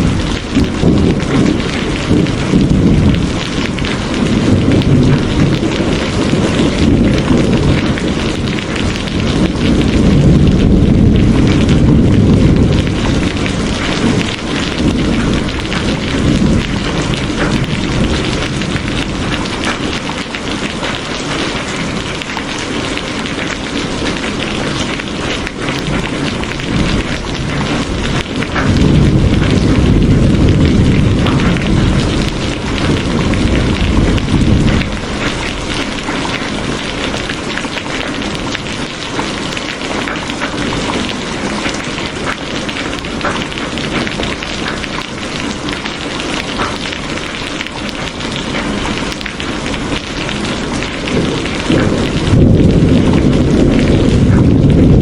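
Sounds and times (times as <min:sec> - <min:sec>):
loud steady rain: 0:00.0 - 0:55.0.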